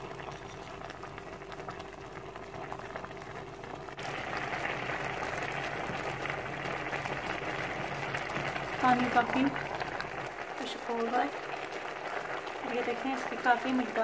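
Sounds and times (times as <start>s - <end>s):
pot of greens bubbling: 0.0s - 14.0s.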